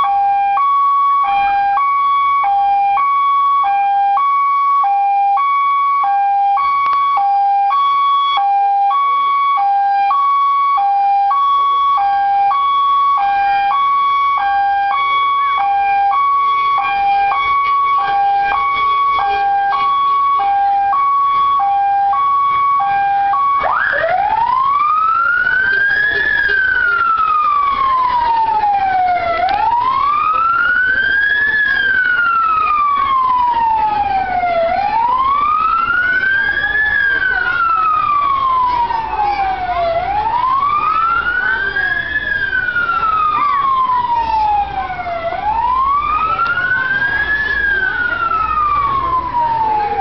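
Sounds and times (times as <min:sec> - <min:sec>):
electronic vehicle siren: 0:00.0 - 0:50.0.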